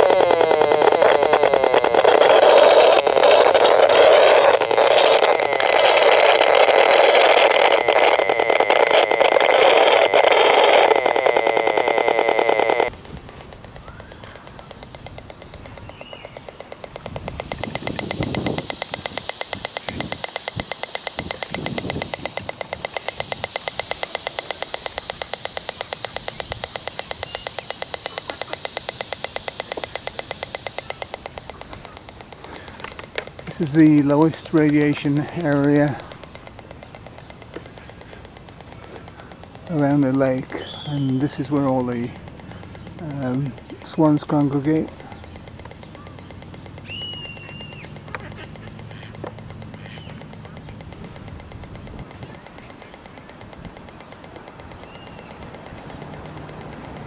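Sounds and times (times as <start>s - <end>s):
buzzing crackle with fine ticking: 0.0s - 57.0s
rapid clicks from meter: 0.0s - 57.0s.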